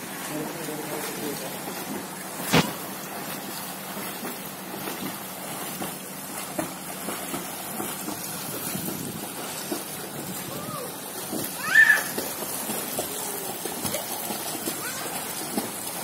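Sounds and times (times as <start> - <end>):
small faint splashes: 0.0 - 16.0
water splashing from kicking feet: 0.0 - 16.0.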